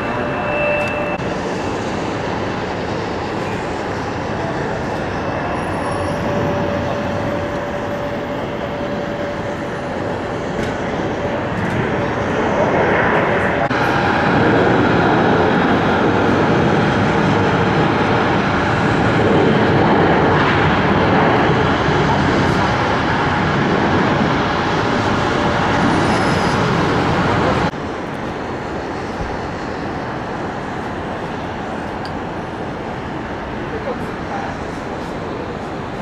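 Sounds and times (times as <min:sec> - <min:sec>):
airport engine hum: 0:00.0 - 0:36.0
jet engines at high power: 0:00.0 - 0:36.0.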